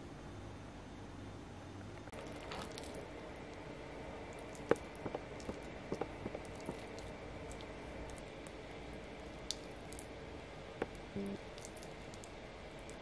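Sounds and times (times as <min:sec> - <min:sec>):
low steady hum: 0:00.0 - 0:13.0
faint wet squishing: 0:02.1 - 0:13.0.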